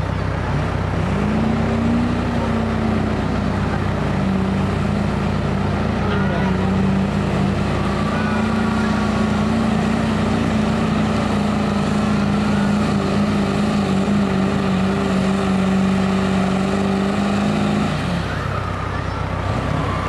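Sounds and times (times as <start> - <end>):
diesel truck engine under load: 0.0 - 20.0.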